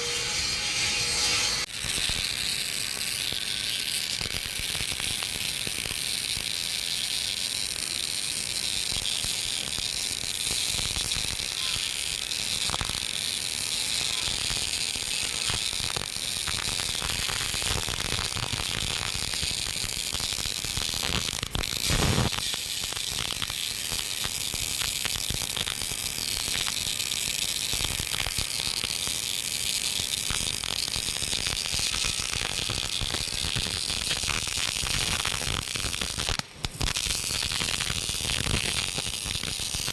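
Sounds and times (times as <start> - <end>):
welding arc crackling sizzle: 0.0 - 39.9.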